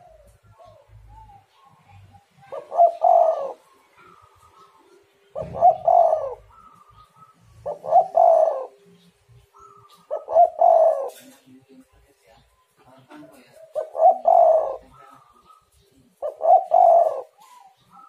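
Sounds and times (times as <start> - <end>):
dove cooing: 0.0 - 11.5, 13.1 - 18.0
faint higher cooing: 0.0 - 11.5, 13.6 - 15.6, 16.2 - 18.0.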